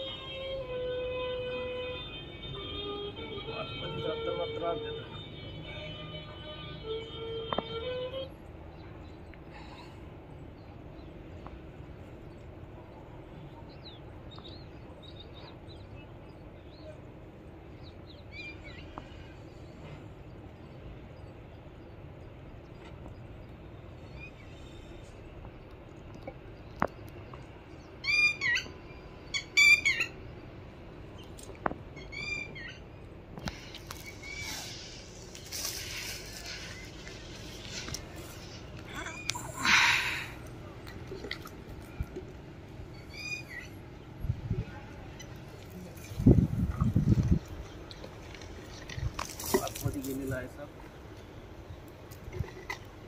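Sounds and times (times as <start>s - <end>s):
birds chirping: 0.0s - 53.0s
low background hum: 4.8s - 53.0s.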